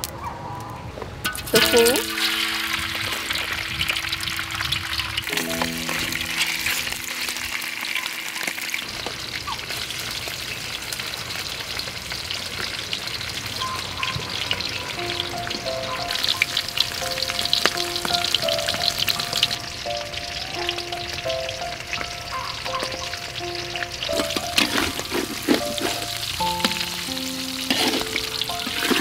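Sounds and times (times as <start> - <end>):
food sizzling in hot oil: 1.2 - 29.0
background music: 1.3 - 9.6, 13.6 - 29.0.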